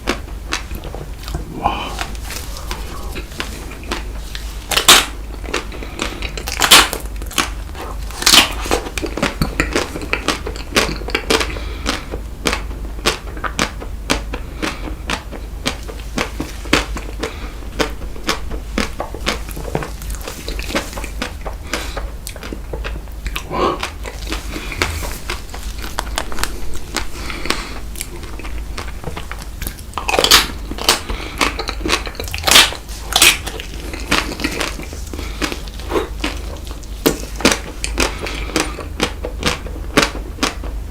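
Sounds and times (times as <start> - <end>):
crunching ice cream: 0.0 - 40.9.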